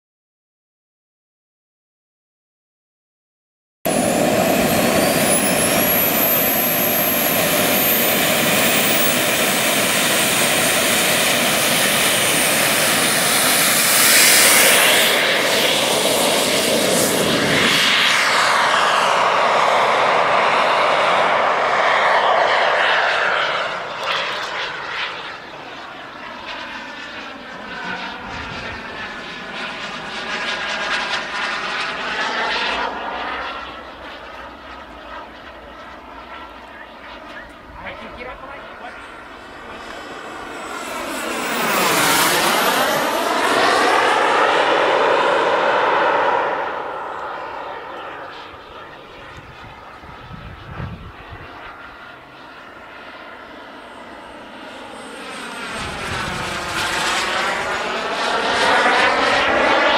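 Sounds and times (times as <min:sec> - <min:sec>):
jet turbine whine: 0:03.9 - 0:59.9.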